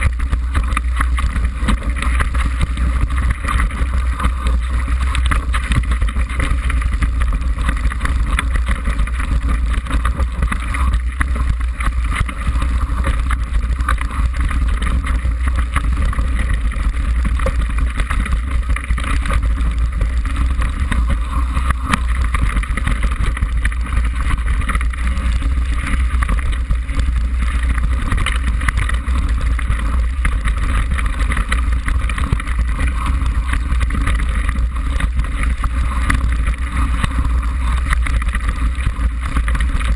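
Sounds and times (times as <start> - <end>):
bike rattling over rocks: 0.0 - 39.9
wind and tyre rumble: 0.0 - 39.9.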